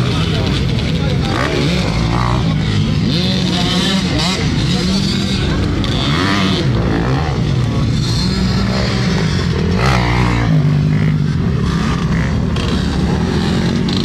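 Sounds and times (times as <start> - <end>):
motocross bikes revving past: 0.0 - 14.0.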